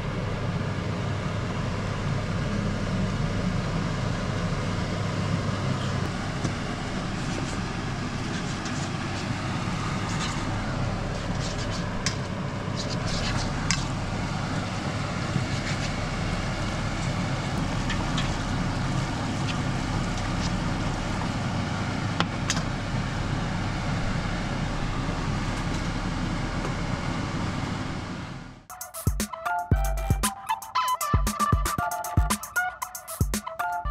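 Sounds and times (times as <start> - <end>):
steady low hum: 0.0 - 28.7.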